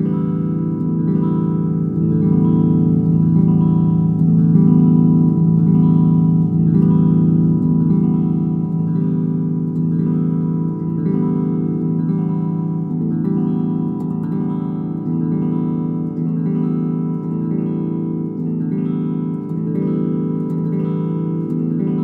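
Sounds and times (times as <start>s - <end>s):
electric guitar chord strummed: 0.0s - 22.0s.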